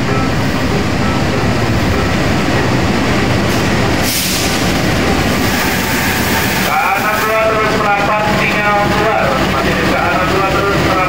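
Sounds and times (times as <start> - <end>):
diesel locomotive engine rumbling: 0.0 - 11.0
train wheels on rails: 0.0 - 11.0.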